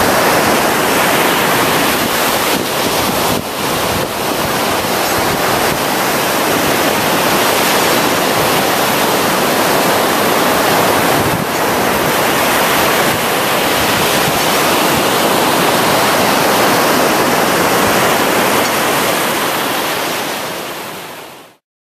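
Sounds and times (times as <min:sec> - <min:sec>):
ocean waves washing ashore: 0:00.0 - 0:21.6.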